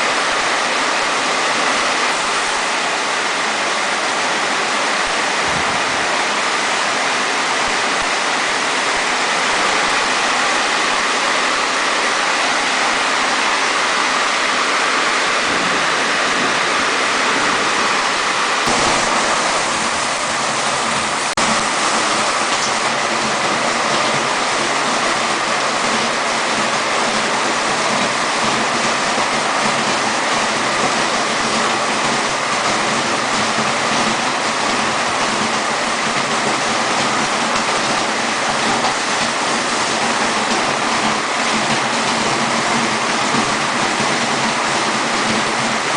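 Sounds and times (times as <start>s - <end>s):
heavy rain rushing: 0.0s - 45.9s.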